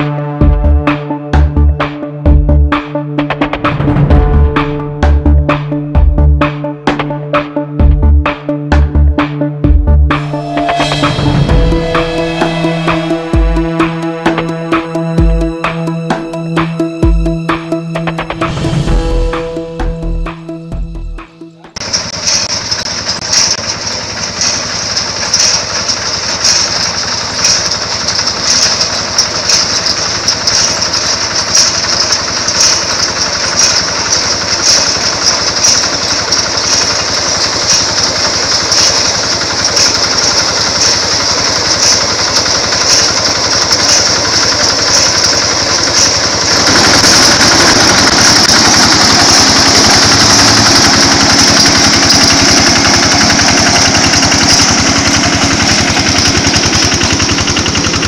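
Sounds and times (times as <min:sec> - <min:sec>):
combine harvester running: 0:00.0 - 0:09.4, 0:10.1 - 0:58.0.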